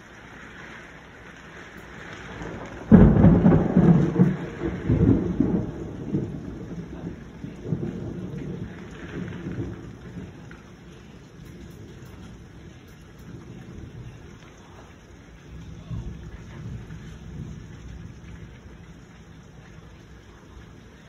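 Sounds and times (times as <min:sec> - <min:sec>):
steady rain: 0:00.0 - 0:21.0
thunder clap and rumble: 0:00.8 - 0:21.0.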